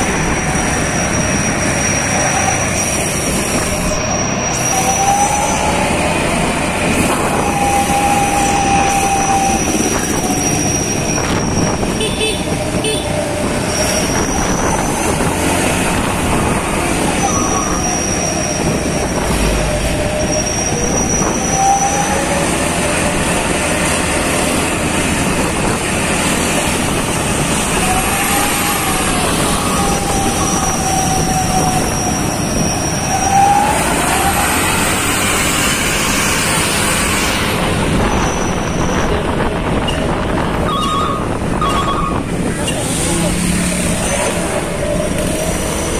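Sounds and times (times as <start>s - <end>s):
loud steady vehicle noise: 0.0s - 45.9s.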